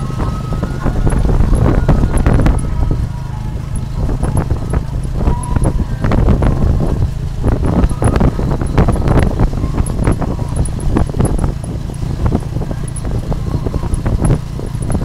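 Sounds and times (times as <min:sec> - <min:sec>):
carriage rattling and knocking: 0:00.0 - 0:15.0
motorbike engine rumbling: 0:00.0 - 0:15.0.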